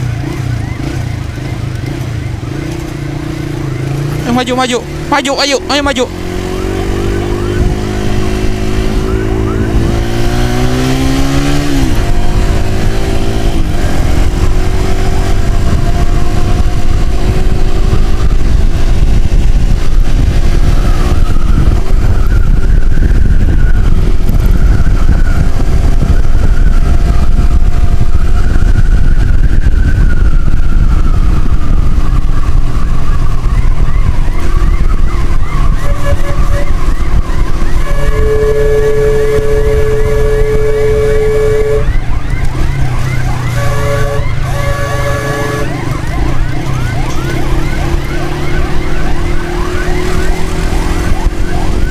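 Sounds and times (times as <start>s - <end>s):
motorcycle engine accelerating: 0.0s - 51.9s
wind noise on microphone: 6.7s - 51.9s.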